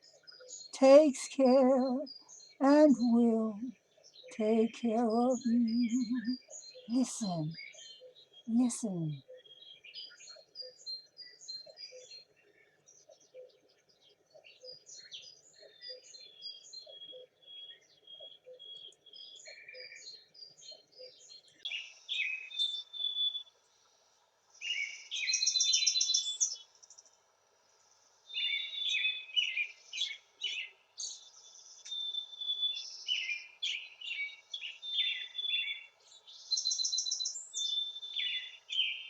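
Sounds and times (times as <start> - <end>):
songbirds chirping and singing: 0.0 - 23.9, 24.6 - 39.0.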